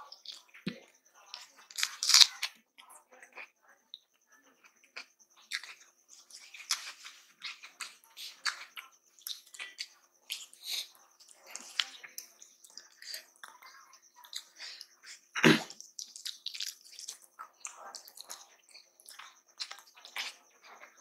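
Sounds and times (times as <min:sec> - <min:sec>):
fingers squishing rice: 0:00.0 - 0:03.5, 0:04.6 - 0:21.0
wet chewing and lip smacking: 0:00.0 - 0:04.0, 0:04.6 - 0:21.0.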